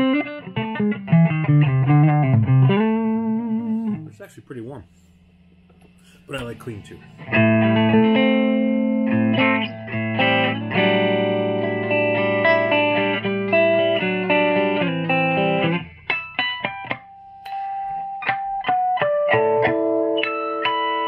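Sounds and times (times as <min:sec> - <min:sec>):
clean electric guitar chords: 0:00.0 - 0:04.2, 0:05.4 - 0:21.0.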